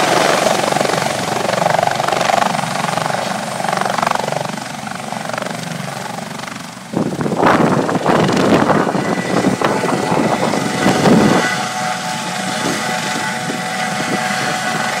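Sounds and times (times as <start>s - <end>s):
helicopter rotor turning: 0.0s - 15.0s
thin turbine whine: 0.0s - 15.0s.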